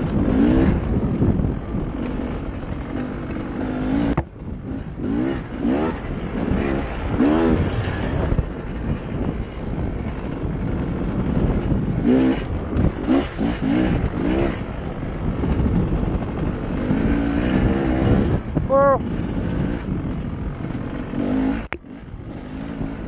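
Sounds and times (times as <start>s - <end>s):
dirt bike engine revving: 0.0s - 23.0s
wind rush: 0.0s - 23.0s.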